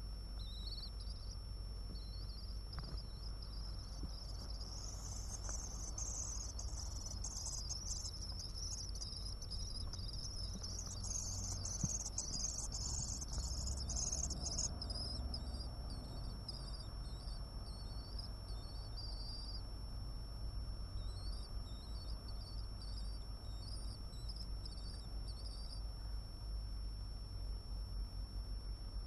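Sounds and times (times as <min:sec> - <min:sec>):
low hum: 0:00.0 - 0:29.0
thin high whine: 0:00.0 - 0:29.0
high chirping bird calls: 0:00.4 - 0:19.6, 0:21.0 - 0:25.8.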